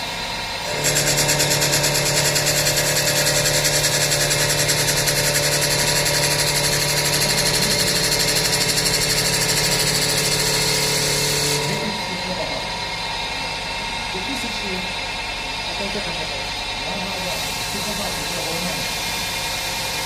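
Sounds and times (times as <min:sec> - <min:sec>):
wood lathe humming: 0:00.0 - 0:20.0
pulsing hiss: 0:00.7 - 0:20.0.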